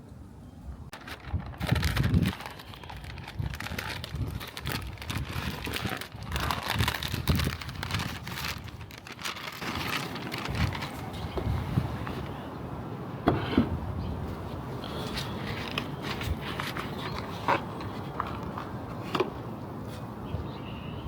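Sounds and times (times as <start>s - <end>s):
rustling and crinkling handling: 0.9s - 12.5s, 13.2s - 20.2s.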